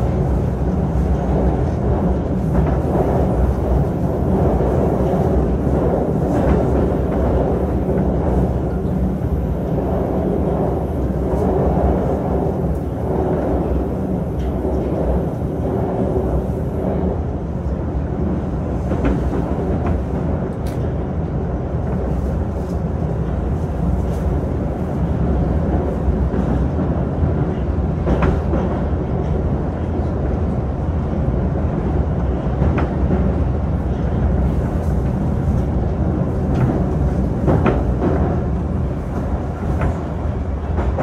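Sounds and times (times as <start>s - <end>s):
metro train rumbling: 0.0s - 41.0s.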